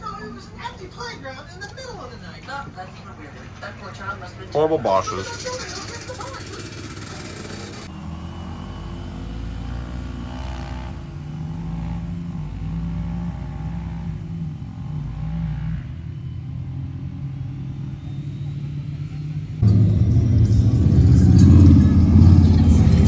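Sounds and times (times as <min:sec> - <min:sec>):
vehicle engine running: 0:01.8 - 0:23.0.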